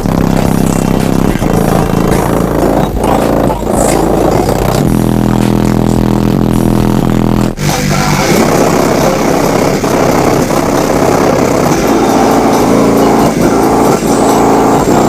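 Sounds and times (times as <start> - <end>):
car subwoofer bass: 0.0 - 15.0.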